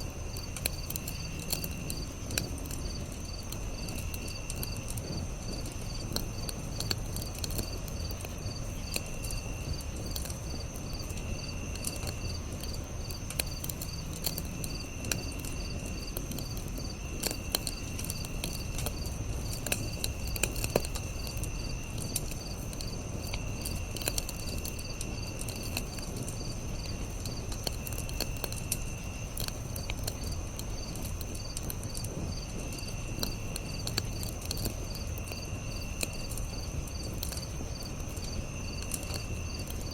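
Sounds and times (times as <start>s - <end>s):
campfire crackling and popping: 0.0s - 39.9s
insects trilling: 0.0s - 39.9s
insect chirping call: 7.6s - 39.9s.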